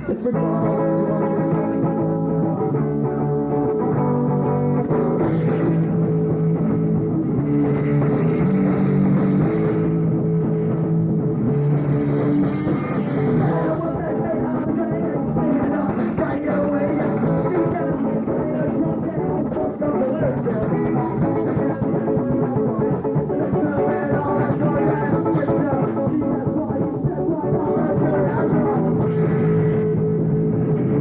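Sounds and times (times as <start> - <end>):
electric guitar: 0.0 - 31.0
rock band playing live: 0.0 - 31.0.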